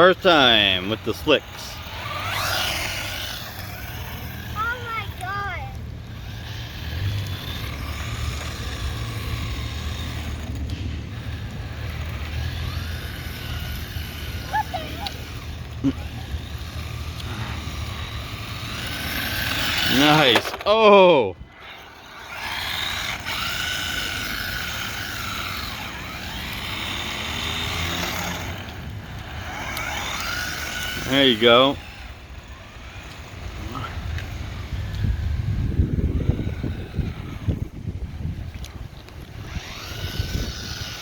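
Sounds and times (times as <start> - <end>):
electric motor whining: 0.0 - 41.0.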